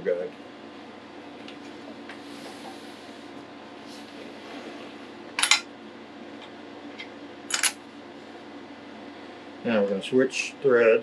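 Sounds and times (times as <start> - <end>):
air conditioner hum: 0.0 - 11.0.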